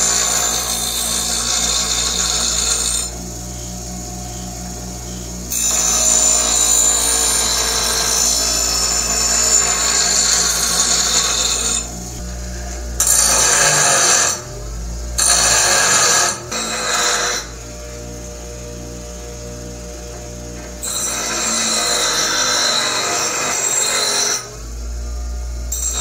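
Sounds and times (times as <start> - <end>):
grinder motor humming: 0.0 - 26.0
grinder wheel grinding steel: 0.0 - 26.0.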